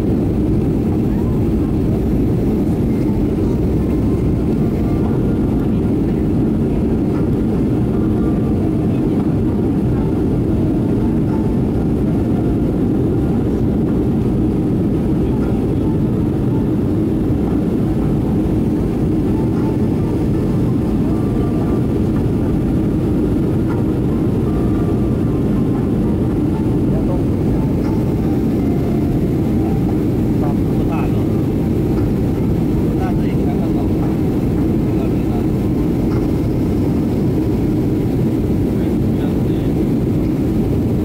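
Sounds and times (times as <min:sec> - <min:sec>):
jet airliner cabin rumble: 0:00.0 - 0:41.0.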